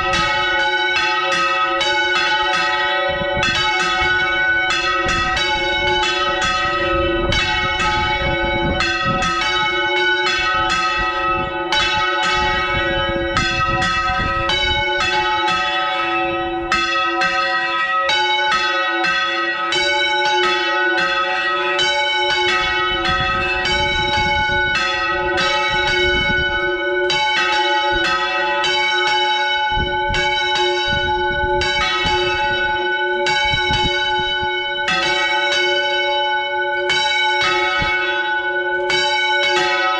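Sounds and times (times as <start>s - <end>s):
church bells clanging: 0.0s - 39.9s.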